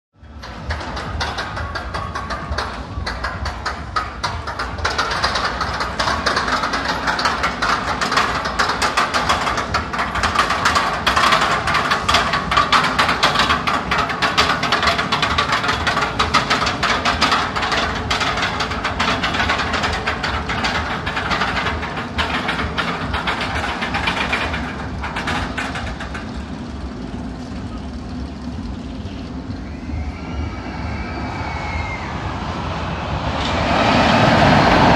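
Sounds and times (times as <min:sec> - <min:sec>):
rollercoaster clacking up lift hill: 0:00.2 - 0:34.9.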